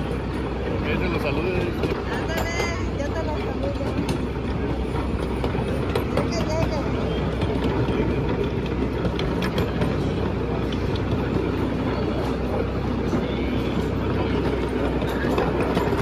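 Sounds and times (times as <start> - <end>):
train rumbling on track: 0.0 - 16.0
wheels clicking: 0.0 - 16.0.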